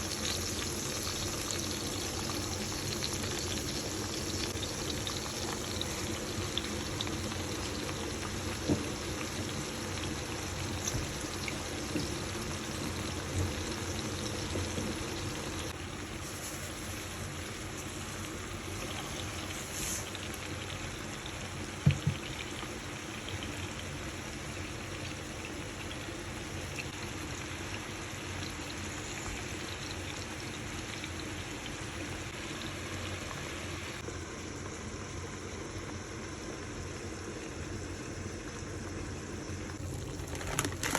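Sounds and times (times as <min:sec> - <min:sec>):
water boiling in a pot: 0:00.0 - 0:40.9.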